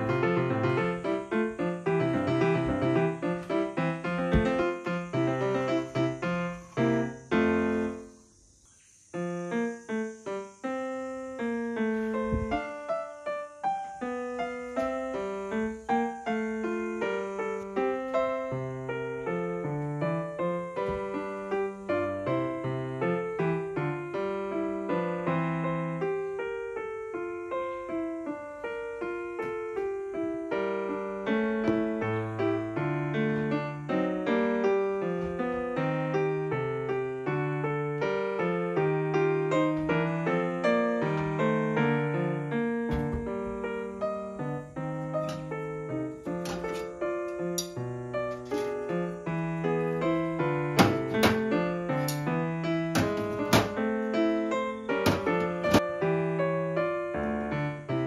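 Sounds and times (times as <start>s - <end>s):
piano notes: 0.0s - 8.3s, 9.1s - 58.0s.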